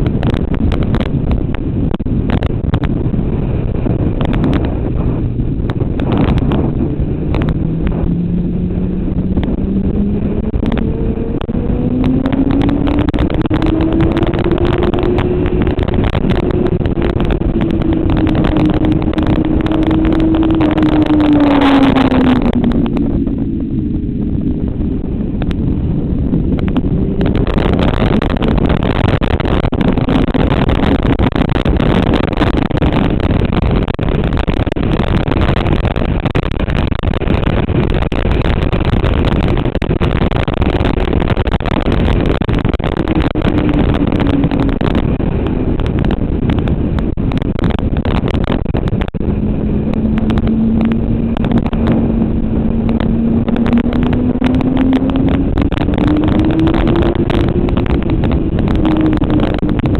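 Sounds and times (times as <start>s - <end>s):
motorcycle engine pulling hard: 0.0s - 59.9s
wind rush: 0.0s - 59.9s.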